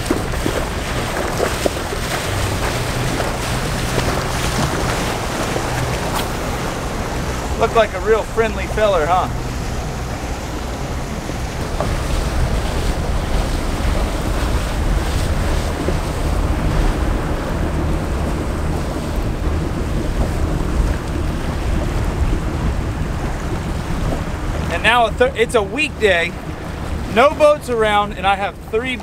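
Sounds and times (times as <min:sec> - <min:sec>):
boat engine running: 0:00.0 - 0:29.0
choppy water slapping boat: 0:00.0 - 0:29.0
wind buffeting microphone: 0:00.0 - 0:29.0.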